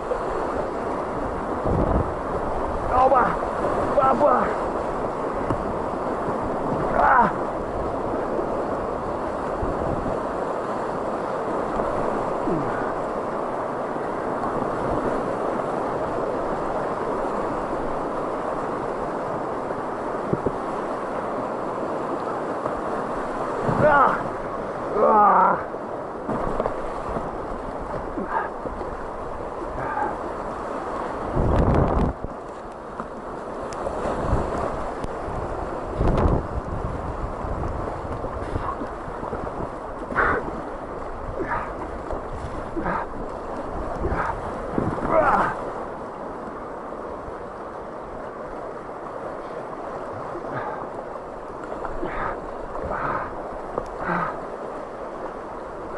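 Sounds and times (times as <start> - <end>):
wind buffeting microphone: 0.0 - 25.0, 25.7 - 50.7
water splashes: 0.0 - 55.9
whitewater rapids rushing: 0.0 - 55.9.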